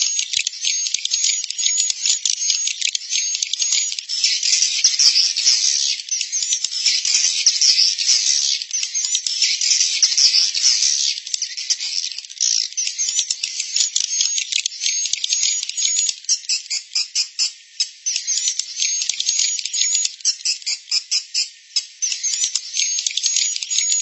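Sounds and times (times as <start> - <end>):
bird chatter of clicks and chirps: 0.0 - 24.0.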